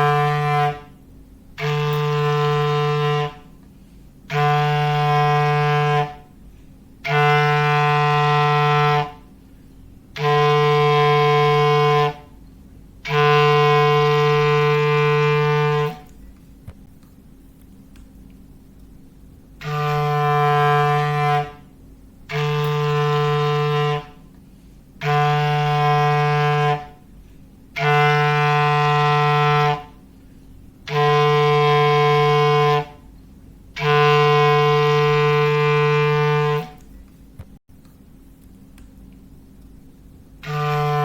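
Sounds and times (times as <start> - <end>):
foghorn blasts: 0.0 - 16.3, 19.5 - 37.0, 40.4 - 41.0.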